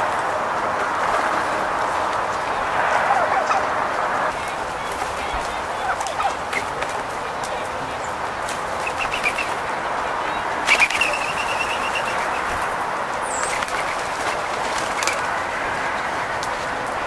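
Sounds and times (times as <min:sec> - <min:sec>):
doves wing flapping: 0:00.0 - 0:17.0.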